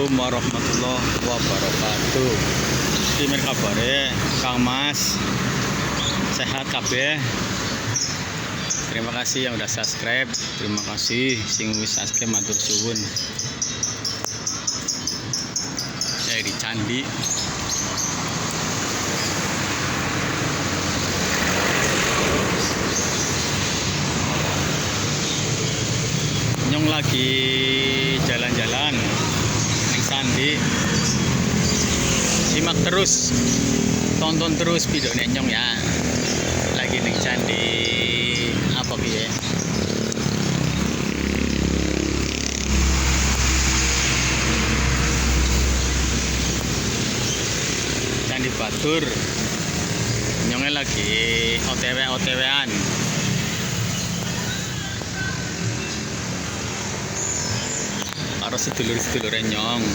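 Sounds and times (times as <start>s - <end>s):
vehicle engine humming: 0.0s - 8.8s, 11.7s - 59.9s
continuous road rushing noise: 0.0s - 59.9s.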